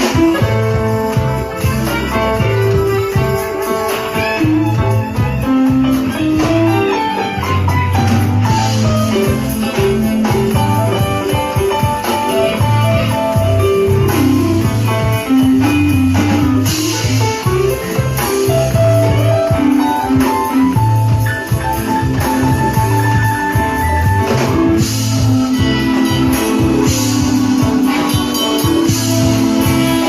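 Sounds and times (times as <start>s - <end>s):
electric guitar: 0.0s - 30.0s
held bass notes: 0.0s - 30.0s.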